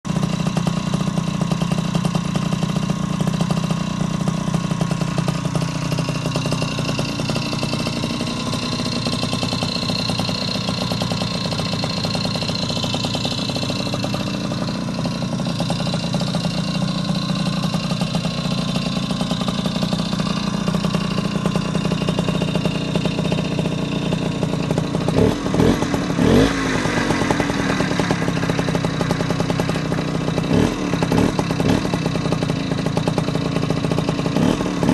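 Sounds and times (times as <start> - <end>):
moped engine idling and revving: 0.0 - 34.9.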